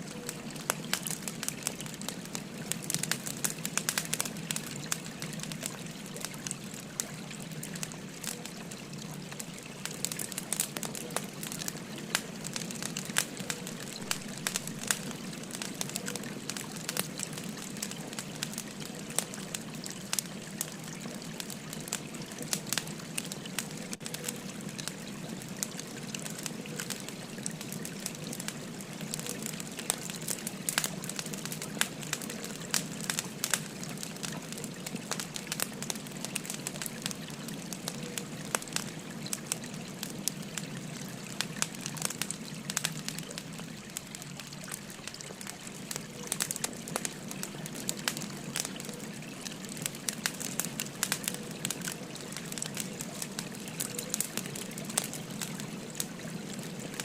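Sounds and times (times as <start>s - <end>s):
stream flowing: 0.0s - 57.0s
wood fire crackling and popping: 0.0s - 57.0s.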